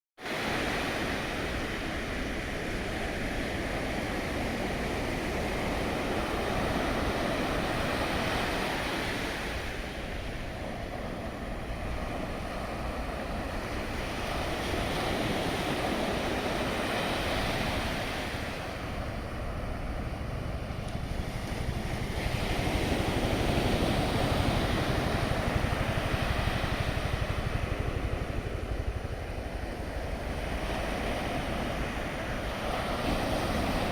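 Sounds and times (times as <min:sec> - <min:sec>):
wind buffeting microphone: 0:00.3 - 0:33.9.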